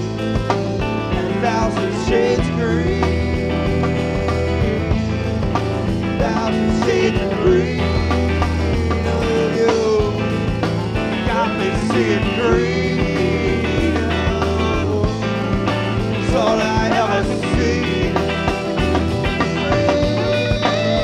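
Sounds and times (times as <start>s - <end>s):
drums keeping a steady beat: 0.0s - 21.0s
rock band playing: 0.0s - 21.0s.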